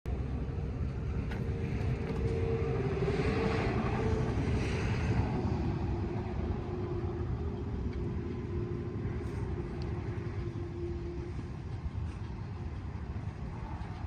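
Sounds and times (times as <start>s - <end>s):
low outdoor rumble: 0.1s - 14.0s
steady droning tone: 0.1s - 14.0s.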